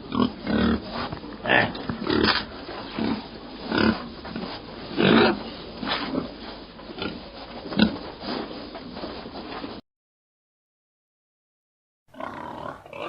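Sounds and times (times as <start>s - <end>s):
pigs grunting: 0.0s - 9.8s, 12.1s - 13.0s.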